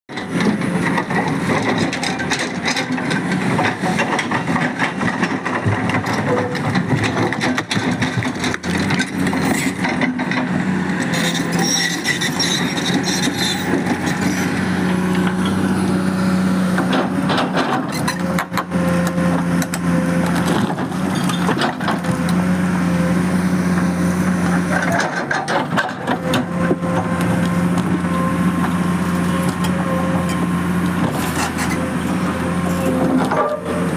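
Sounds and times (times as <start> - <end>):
excavator diesel engine: 0.1 - 33.9.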